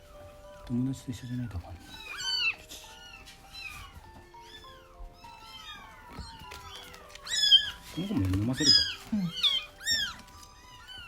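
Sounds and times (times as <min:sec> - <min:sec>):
background music tones: 0:00.0 - 0:11.0
kittens mewing: 0:00.0 - 0:11.0.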